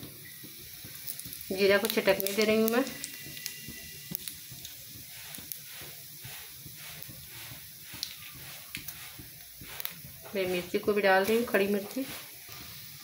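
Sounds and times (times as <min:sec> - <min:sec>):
seeds sizzling in hot oil: 0:00.0 - 0:13.0
small pops: 0:00.0 - 0:13.0.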